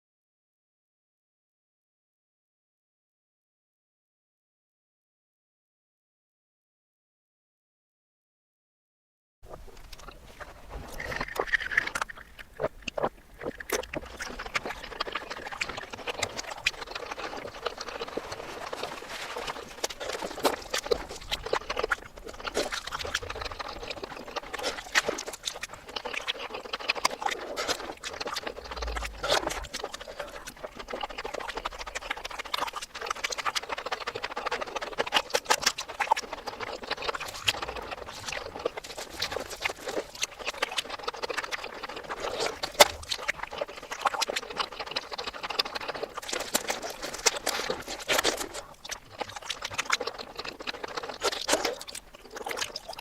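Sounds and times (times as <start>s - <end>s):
reversed wet mouth clicks and chewing: 9.5s - 53.0s.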